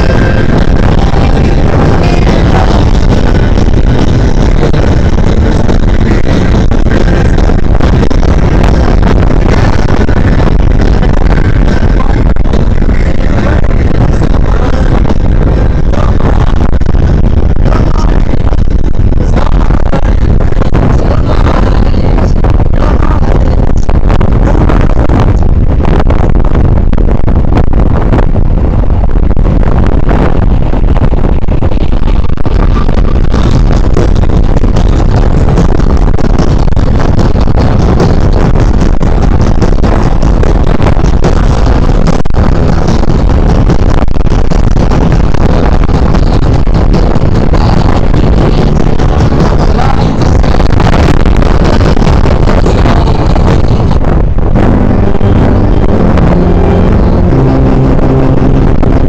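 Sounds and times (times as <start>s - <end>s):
road noise: 0.0s - 59.0s
wind rumble on microphone: 0.0s - 59.0s.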